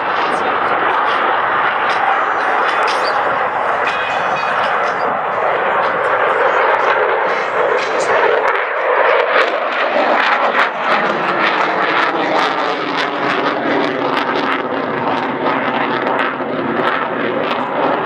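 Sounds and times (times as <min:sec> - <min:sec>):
fighter jet engine roar: 0:00.0 - 0:18.0.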